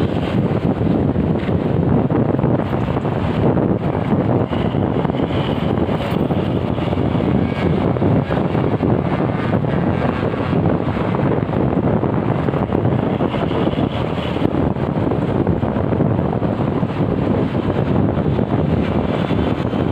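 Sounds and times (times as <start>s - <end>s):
road and engine noise: 0.0s - 19.9s
wind rumble on microphone: 0.0s - 19.9s.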